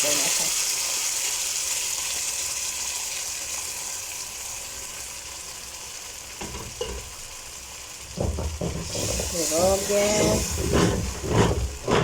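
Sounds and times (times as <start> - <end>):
sauce sizzling in a pan: 0.0 - 10.6.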